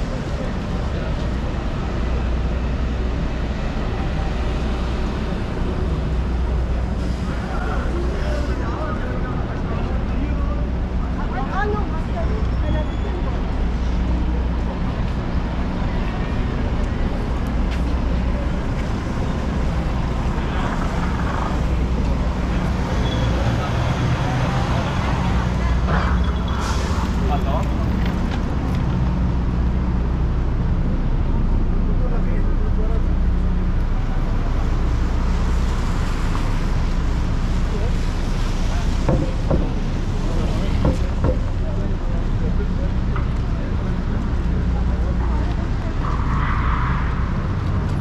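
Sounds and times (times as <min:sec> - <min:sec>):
low rumble of traffic: 0:00.0 - 0:48.0.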